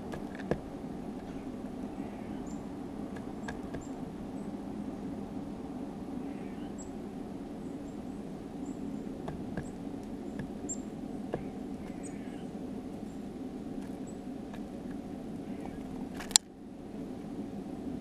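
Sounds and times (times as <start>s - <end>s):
low background hum: 0.0s - 18.0s
songbirds chipping: 0.0s - 18.0s.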